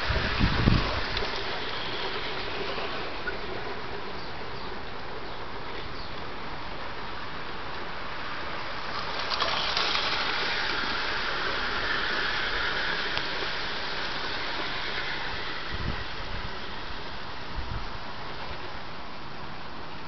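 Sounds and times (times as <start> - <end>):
model train wheels rumbling on rails: 0.0 - 20.0.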